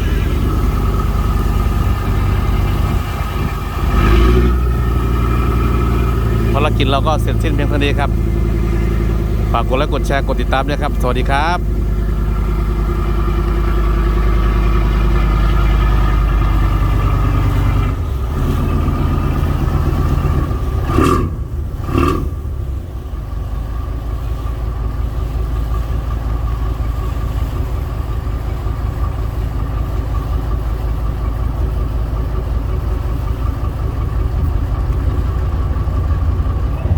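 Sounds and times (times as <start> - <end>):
boat engine running: 0.0 - 36.9.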